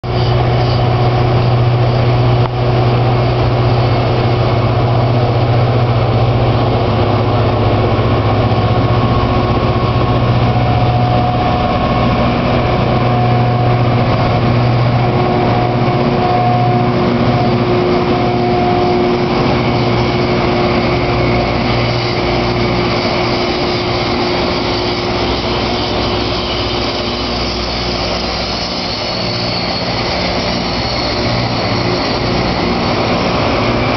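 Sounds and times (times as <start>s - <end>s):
diesel engine deep hum: 0.0s - 33.9s
grinding stones on rail: 0.1s - 33.9s.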